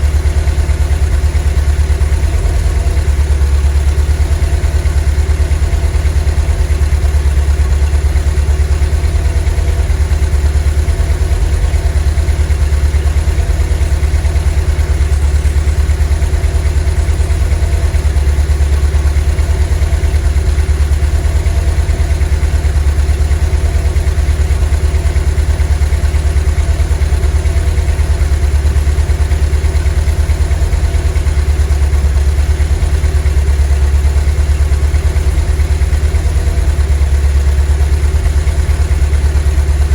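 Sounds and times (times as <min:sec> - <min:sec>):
van engine idling: 0:00.0 - 0:39.9.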